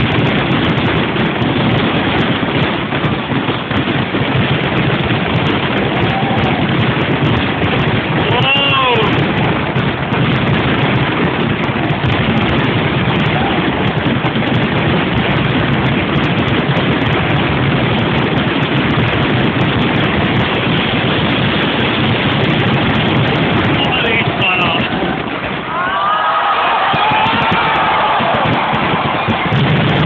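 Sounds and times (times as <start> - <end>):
fireworks roar: 0.0 - 30.0.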